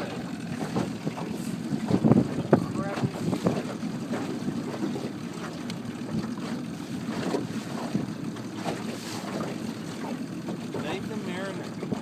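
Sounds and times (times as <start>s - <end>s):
water splashing and lapping: 0.0s - 12.0s
wind buffeting microphone: 0.0s - 12.0s.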